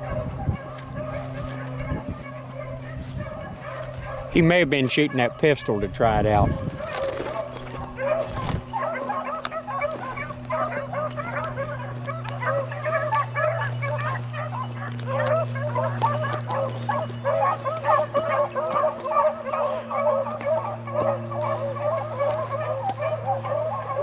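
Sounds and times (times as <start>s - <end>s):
beagles baying: 0.0s - 24.0s
steady low hum: 0.0s - 24.0s.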